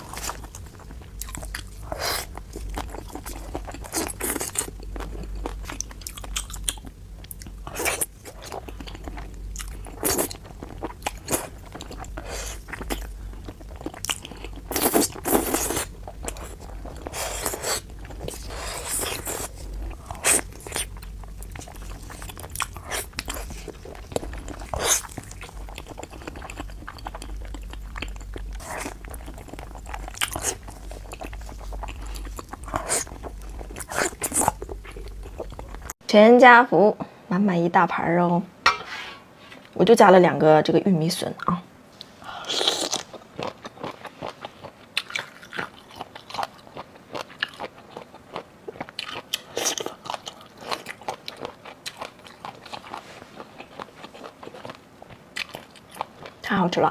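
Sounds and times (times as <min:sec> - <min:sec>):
crunching and chewing food: 0:00.0 - 0:36.0, 0:42.0 - 0:56.9.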